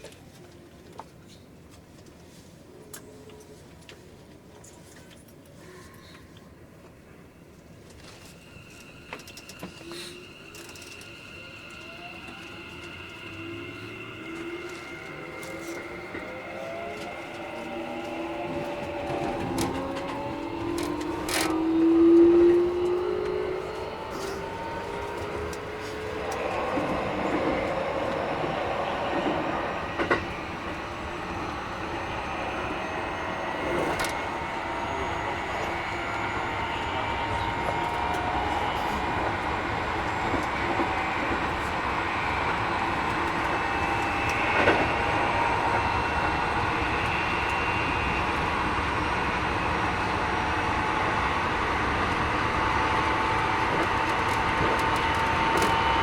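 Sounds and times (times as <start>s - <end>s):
rumbling train wheels: 6.6s - 56.0s
rail clicks: 7.8s - 56.0s
train motors whining: 7.9s - 56.0s.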